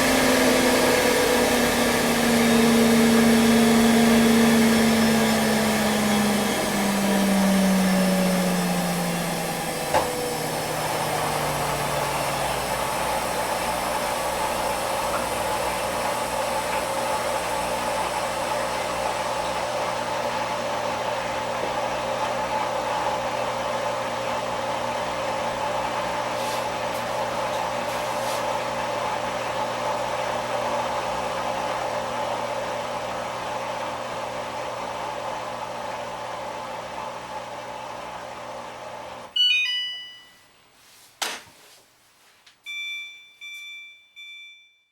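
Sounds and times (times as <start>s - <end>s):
washing machine motor whine: 0.0s - 40.3s.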